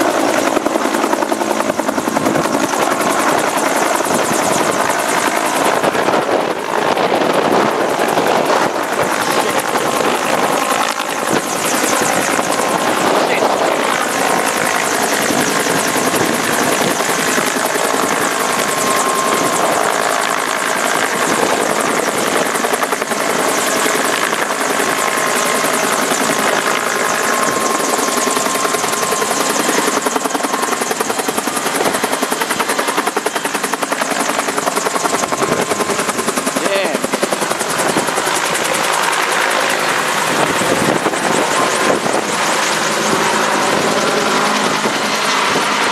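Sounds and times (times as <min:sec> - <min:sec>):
helicopter rotor beating: 0:00.0 - 0:45.9
helicopter turbine running: 0:00.0 - 0:45.9.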